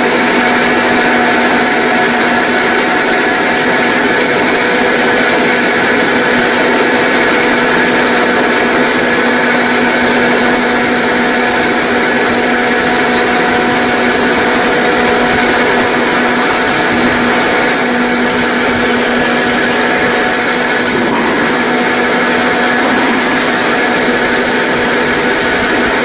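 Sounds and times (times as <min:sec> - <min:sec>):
milling machine whirring: 0:00.0 - 0:26.0.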